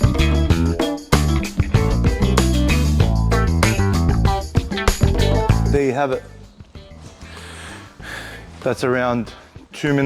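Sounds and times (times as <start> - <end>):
music with guitar and bass: 0.0 - 8.8.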